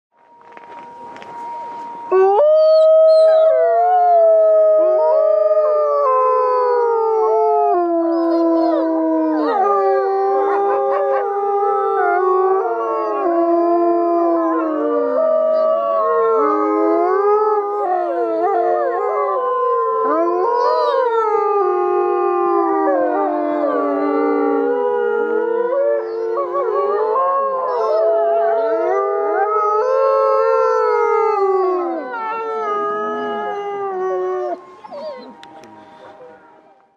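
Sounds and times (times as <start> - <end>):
wolves howling in chorus: 0.6 - 36.7.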